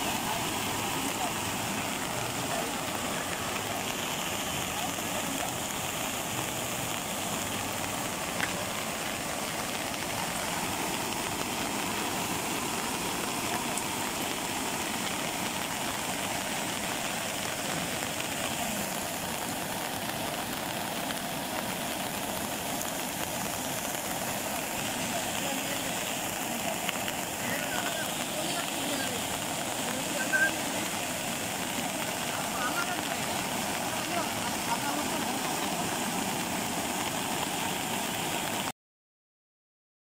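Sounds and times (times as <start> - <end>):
floodwater rushing: 0.0 - 38.7.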